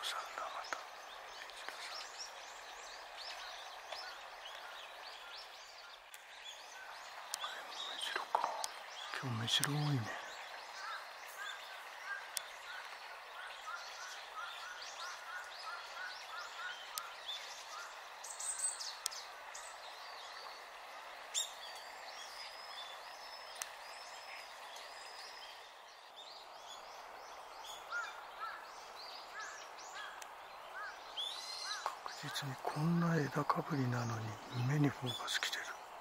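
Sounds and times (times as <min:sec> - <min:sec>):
background hiss: 0:00.0 - 0:36.0
small songbirds chirping: 0:00.0 - 0:36.0.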